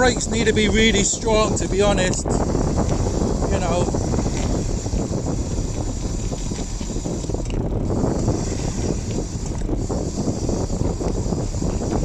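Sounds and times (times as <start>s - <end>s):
steady high hiss: 0.0s - 12.0s
wind buffeting microphone: 0.0s - 12.0s.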